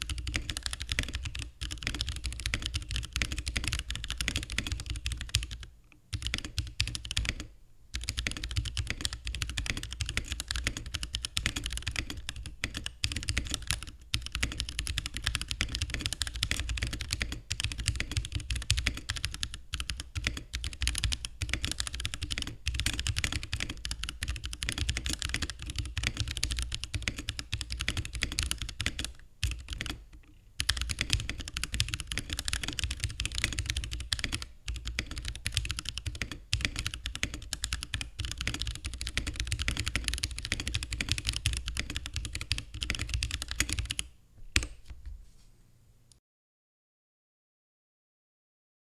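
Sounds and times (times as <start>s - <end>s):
mechanical keyboard typing: 0.0s - 44.8s.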